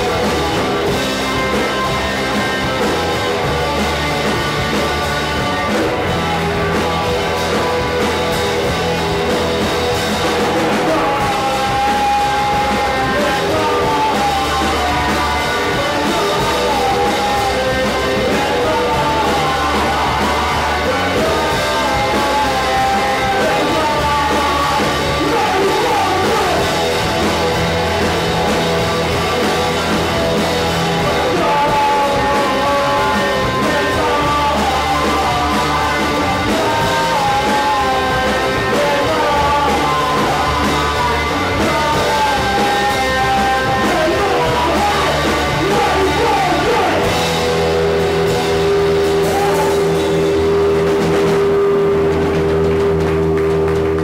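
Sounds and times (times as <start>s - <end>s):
man singing and yelling: 0.0s - 52.7s
live rock band playing: 0.0s - 54.0s.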